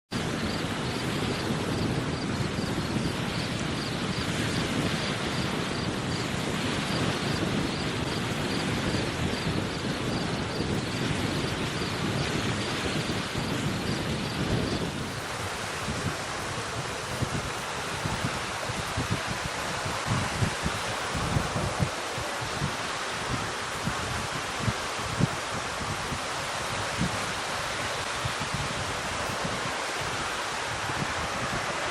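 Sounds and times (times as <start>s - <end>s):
gusty wind on microphone: 0.1s - 31.9s.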